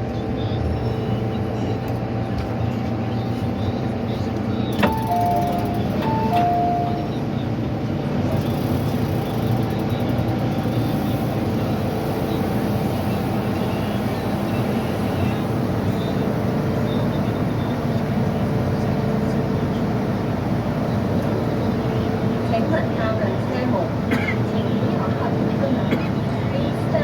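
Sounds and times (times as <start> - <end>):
train wheels rumbling: 4.7 - 27.0.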